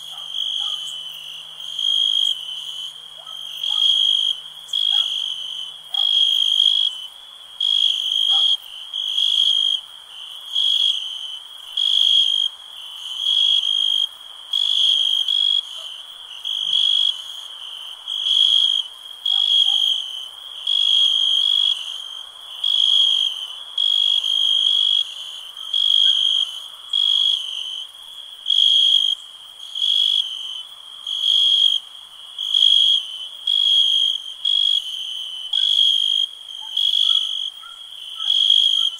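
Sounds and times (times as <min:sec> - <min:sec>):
cricket chirping: 0:00.0 - 0:38.9
night background noise: 0:00.0 - 0:38.9.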